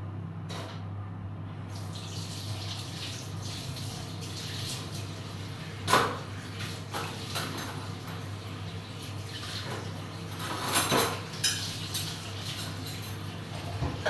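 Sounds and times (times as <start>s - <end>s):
food simmering and sizzling: 1.7s - 13.8s.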